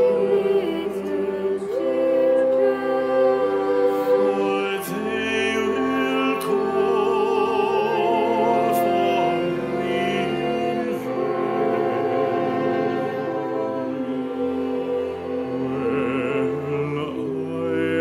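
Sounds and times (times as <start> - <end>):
girls singing in parts: 0.0 - 18.0
viola and cello: 0.0 - 18.0.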